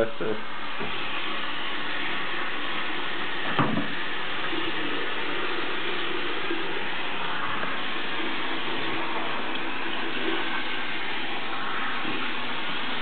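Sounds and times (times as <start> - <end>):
tap water running: 0.0 - 13.0
water poured from a cup: 0.8 - 13.0.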